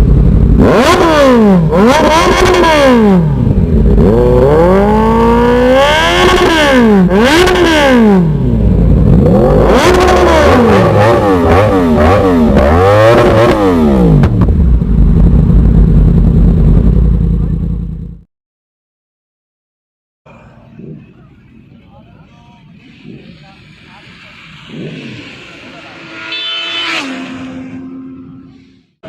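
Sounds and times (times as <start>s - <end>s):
motorcycle engine revving: 0.0s - 18.2s, 20.3s - 29.0s.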